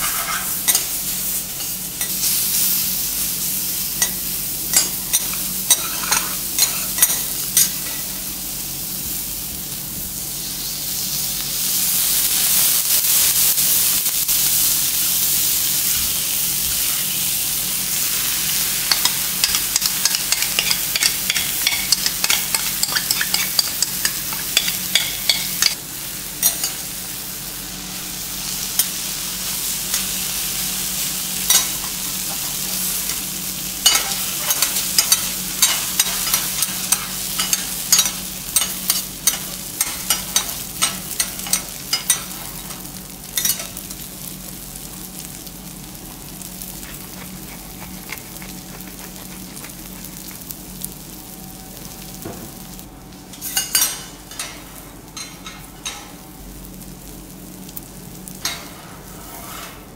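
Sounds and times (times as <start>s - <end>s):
food sizzling on griddle: 0.0s - 59.9s.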